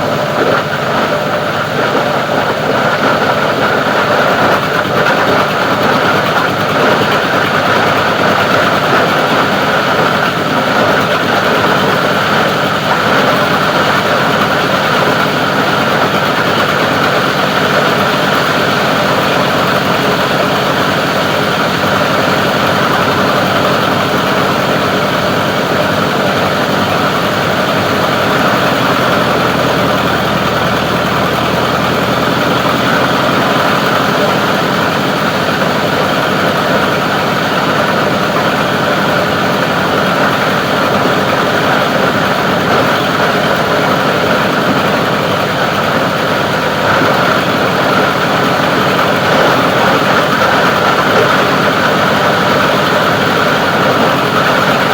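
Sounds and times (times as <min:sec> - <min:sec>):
grinder machine droning: 0:00.0 - 0:54.9.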